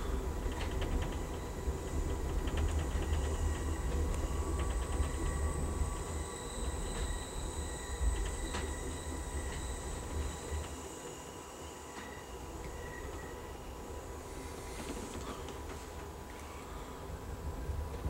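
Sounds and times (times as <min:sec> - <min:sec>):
thin high whine: 0:00.0 - 0:15.5
train rumble: 0:00.0 - 0:18.0.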